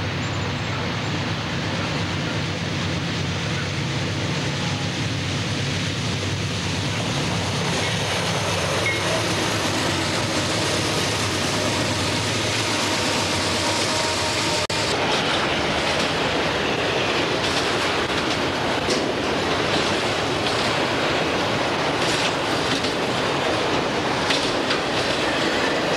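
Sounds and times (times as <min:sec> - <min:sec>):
freight cars rolling on rails: 0:00.0 - 0:25.9
locomotive engines working hard: 0:00.0 - 0:25.9.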